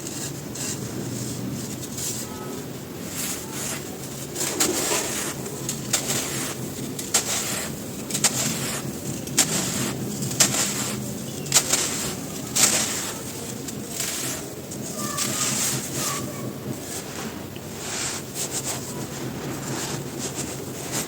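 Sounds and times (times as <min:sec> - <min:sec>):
gritty rustle: 0:00.0 - 0:21.0
crumbly material crunching and snapping: 0:03.0 - 0:21.0.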